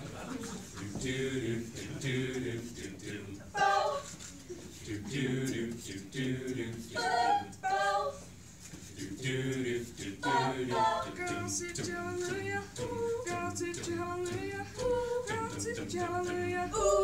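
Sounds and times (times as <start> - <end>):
choir singing pop harmonies: 0.0 - 17.0.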